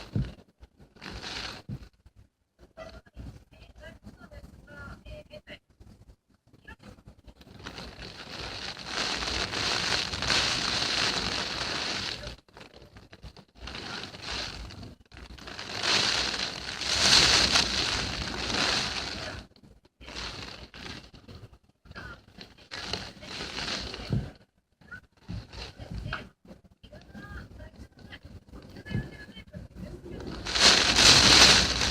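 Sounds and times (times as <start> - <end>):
storm wind and rain battering a window: 0.0 - 2.2, 2.8 - 31.9.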